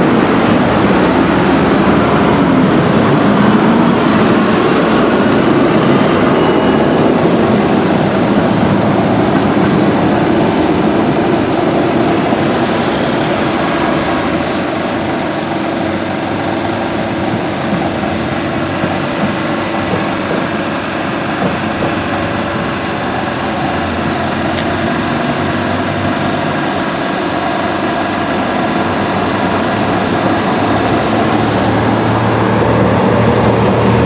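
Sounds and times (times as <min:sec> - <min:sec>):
tram rumbling with low hum: 0:00.0 - 0:34.0.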